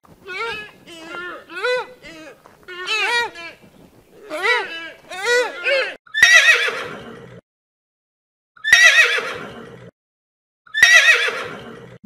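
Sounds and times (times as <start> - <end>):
horse whinnying: 0.2 - 7.4, 8.6 - 9.9, 10.7 - 12.0.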